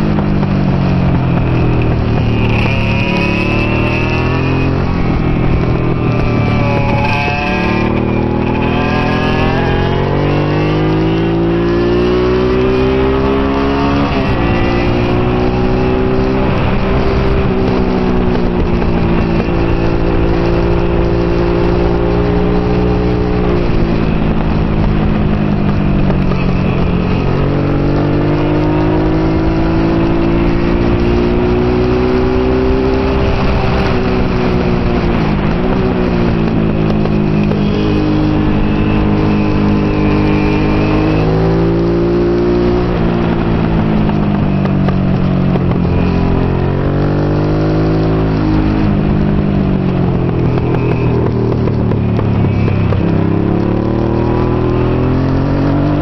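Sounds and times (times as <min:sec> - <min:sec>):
motorcycle engine revving: 0:00.0 - 0:56.0
steady rush of noise: 0:00.0 - 0:56.0.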